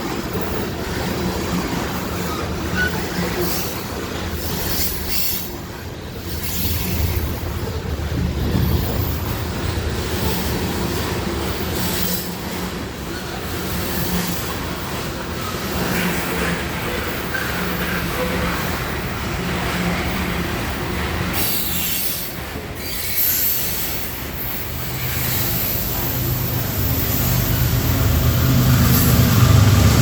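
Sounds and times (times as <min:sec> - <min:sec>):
freight cars rolling on rails: 0:00.0 - 0:30.0.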